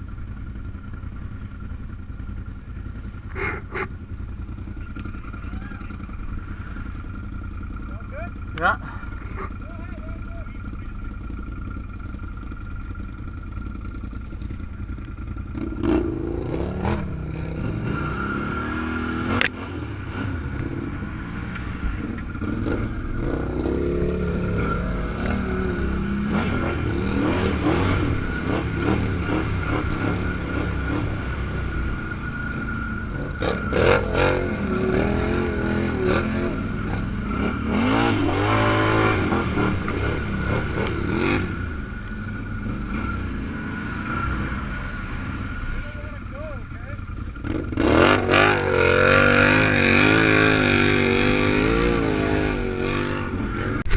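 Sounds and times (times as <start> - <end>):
steady whine: 0.0 - 47.5
off-road vehicle engine revving: 0.0 - 53.9.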